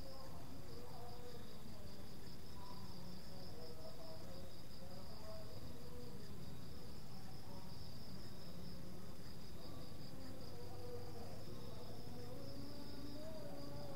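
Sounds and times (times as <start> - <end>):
crickets chirring: 0.0 - 13.9.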